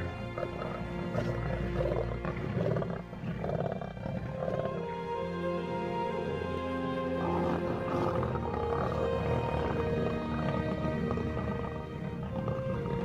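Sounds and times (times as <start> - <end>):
lions growling: 0.0 - 13.0
orchestral film music: 0.0 - 13.0.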